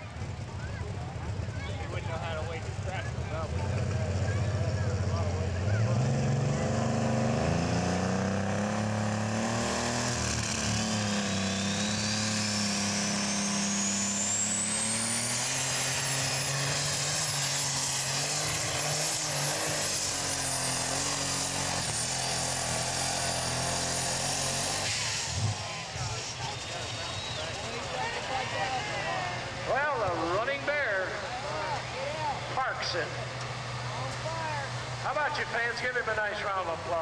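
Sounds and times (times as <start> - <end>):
diesel tractor engine at full power: 0.0 - 37.0
turbocharger whine: 1.9 - 37.0.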